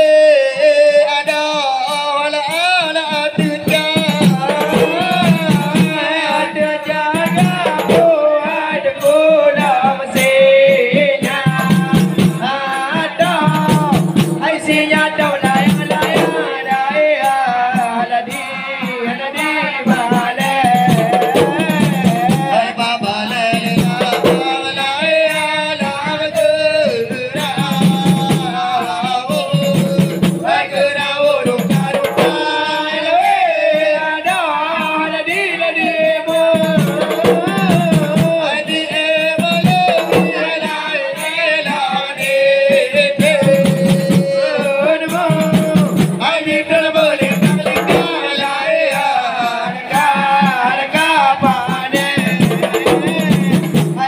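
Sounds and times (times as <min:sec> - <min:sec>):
frame drums in fast rhythm: 0:00.0 - 0:54.0
voices singing: 0:00.0 - 0:54.0.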